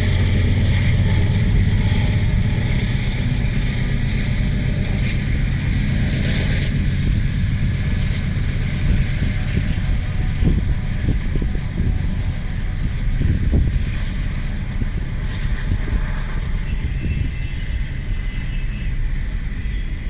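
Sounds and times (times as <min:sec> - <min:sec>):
freight train passing: 0:00.0 - 0:20.0.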